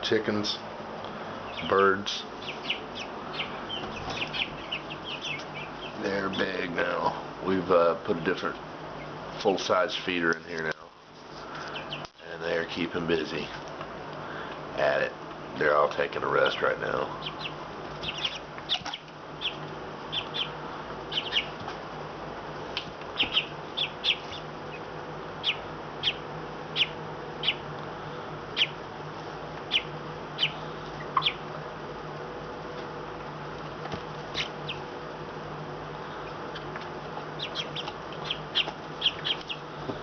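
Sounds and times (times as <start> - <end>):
chicks peeping: 1.3 - 13.8, 15.6 - 40.0.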